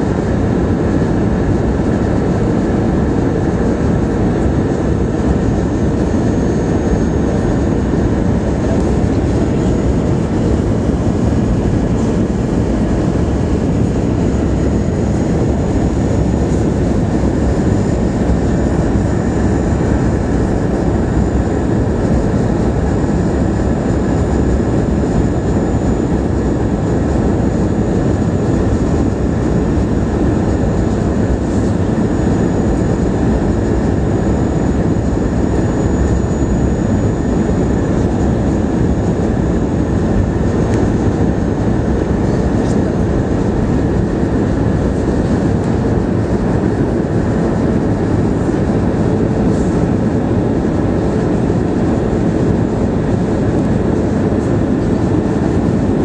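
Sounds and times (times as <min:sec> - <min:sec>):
airliner cabin engine roar: 0:00.0 - 0:56.0.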